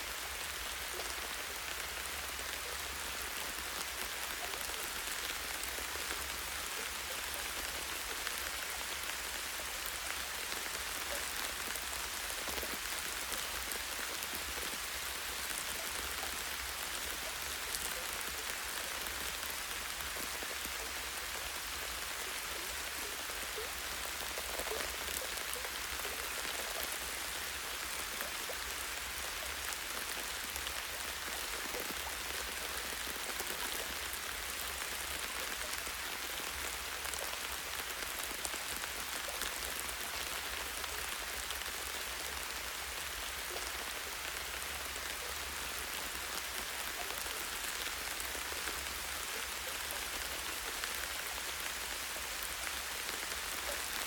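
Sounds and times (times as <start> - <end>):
light rain on leaves: 0.0 - 54.0.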